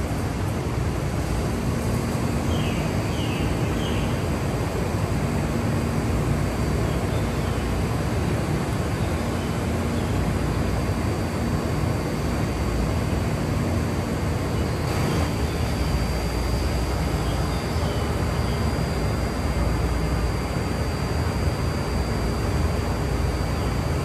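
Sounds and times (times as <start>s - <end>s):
faint electric hum: 0.0s - 24.0s.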